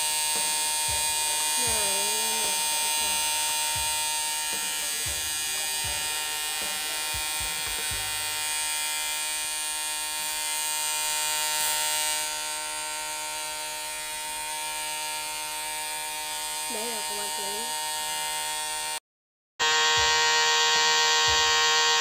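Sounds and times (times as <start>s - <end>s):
nebulizer buzzing and hissing: 0.0s - 19.0s, 19.6s - 22.0s.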